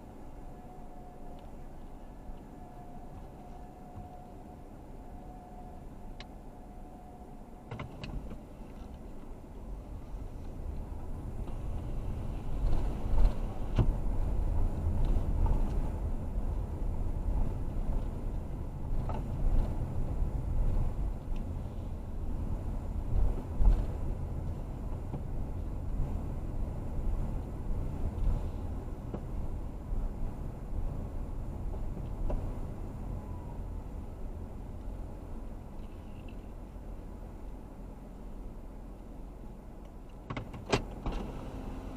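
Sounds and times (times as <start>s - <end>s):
car interior rumble: 0.0s - 41.9s.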